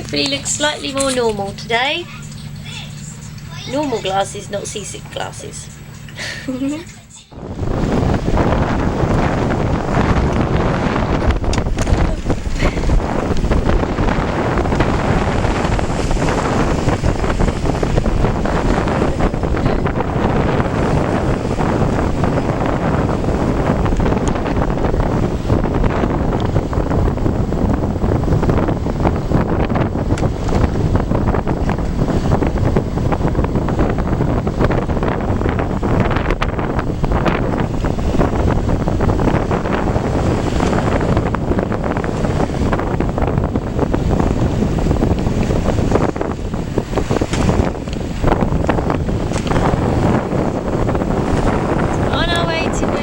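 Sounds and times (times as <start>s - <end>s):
waves and water: 0.0s - 53.0s
wind buffeting microphone: 0.0s - 53.0s.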